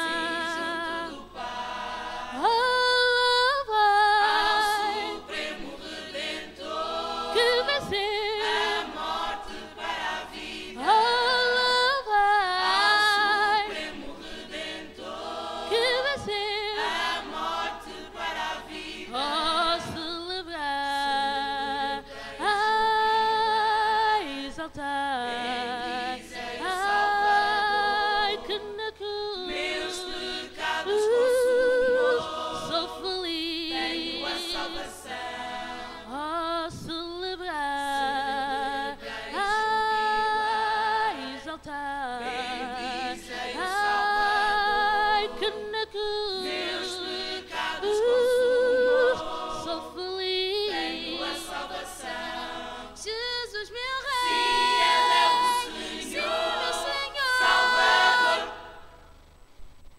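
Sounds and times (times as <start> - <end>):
mixed choir singing a cappella: 0.0 - 59.2.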